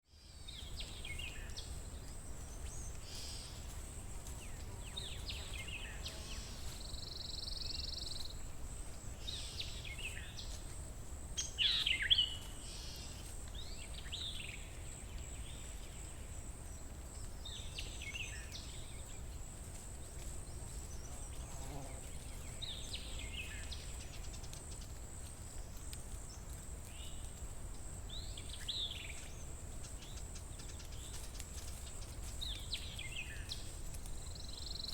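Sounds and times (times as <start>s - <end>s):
wild birds singing: 0.1s - 10.8s, 11.4s - 34.9s.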